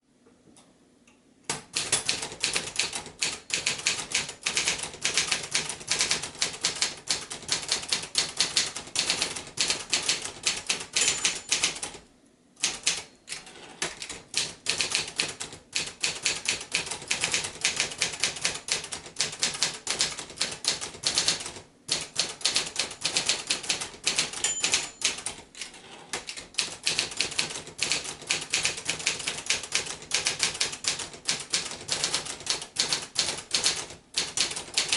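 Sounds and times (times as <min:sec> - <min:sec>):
typewriter keys striking: 0:01.5 - 0:12.0, 0:12.6 - 0:34.9.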